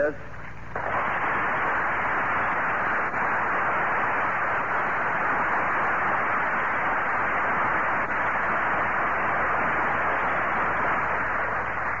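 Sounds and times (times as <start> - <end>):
audience applauding: 0.7 - 12.0.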